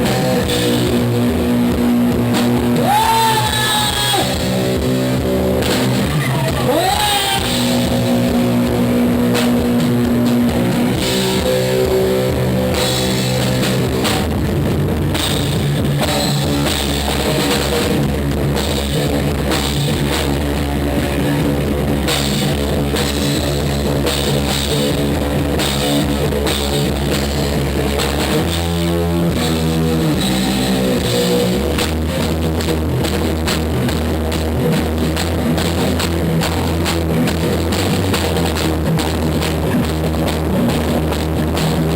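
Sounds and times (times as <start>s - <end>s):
rock band playing: 0.0s - 41.9s.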